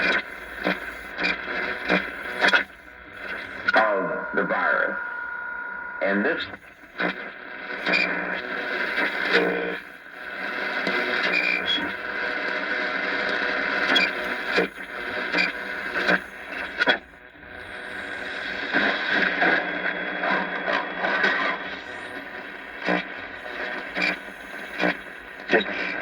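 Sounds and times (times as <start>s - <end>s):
shortwave radio static: 0.0s - 26.0s.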